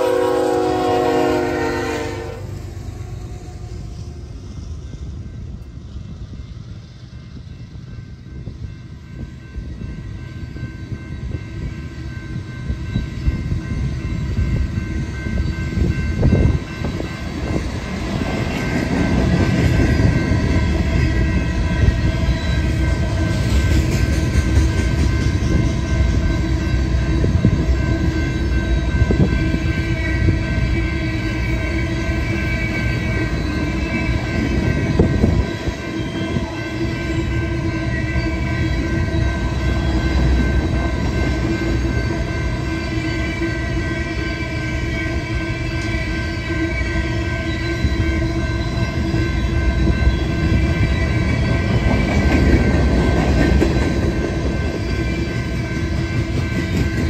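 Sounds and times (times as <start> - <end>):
steady high-pitched tones: 0.0 - 57.0
train wheels rumbling on rails: 0.0 - 57.0.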